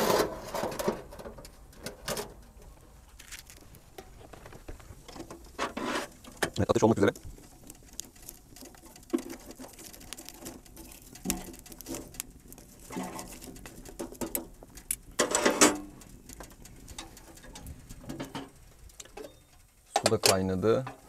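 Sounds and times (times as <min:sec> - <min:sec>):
faint clicks and crackles: 0:00.0 - 0:21.0.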